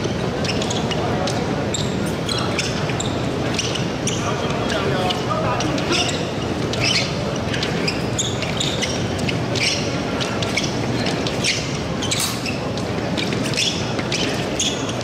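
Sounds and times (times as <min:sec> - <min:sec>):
large hall noise: 0:00.0 - 0:15.0
shoes tapping and squeaking: 0:00.0 - 0:15.0.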